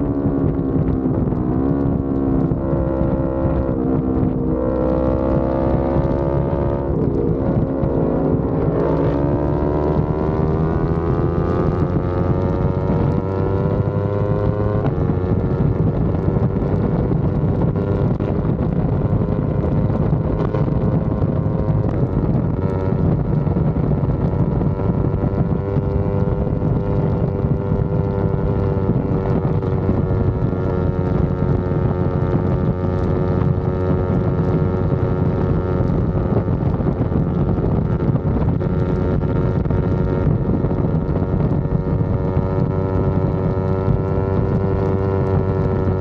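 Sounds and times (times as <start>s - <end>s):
motorcycle engine running: 0.0s - 46.0s
wind on microphone: 0.0s - 46.0s.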